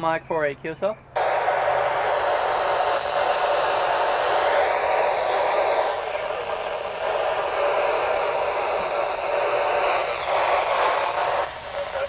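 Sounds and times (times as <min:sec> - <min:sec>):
radio static hiss: 0:01.2 - 0:12.0.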